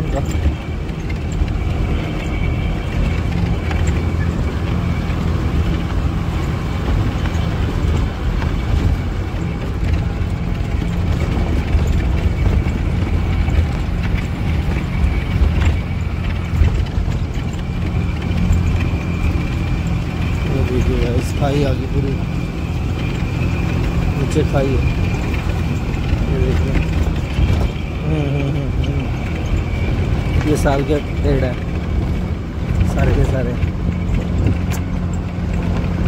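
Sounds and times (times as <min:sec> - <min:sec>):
bus engine rumbling: 0:00.0 - 0:36.0
knocks and rattles: 0:00.0 - 0:36.0.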